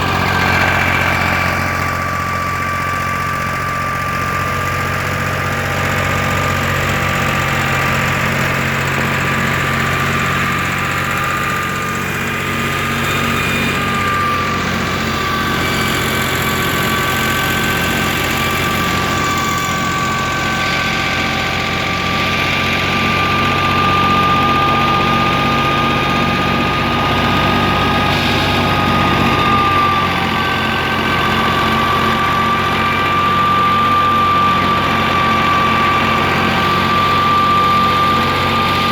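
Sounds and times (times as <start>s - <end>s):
high-pitched whine: 0.0s - 38.9s
tractor diesel engine running: 0.0s - 38.9s.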